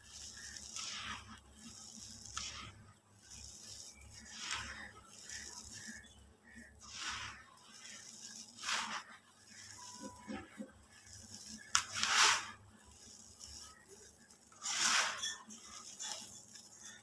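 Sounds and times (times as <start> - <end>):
powder pouring into a bucket: 0.0 - 17.0
rustling of powder dust: 0.0 - 17.0.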